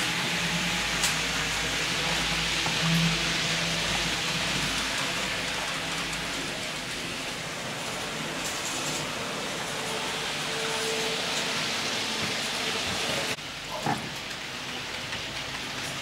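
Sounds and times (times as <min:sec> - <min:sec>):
model trains rushing hiss: 0:00.0 - 0:16.0.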